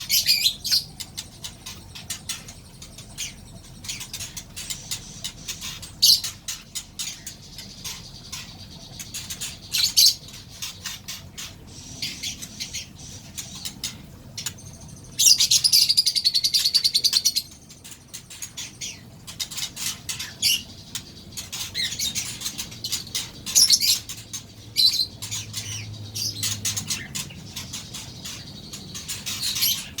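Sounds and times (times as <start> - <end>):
bird chirping and calling: 0.0 - 30.0.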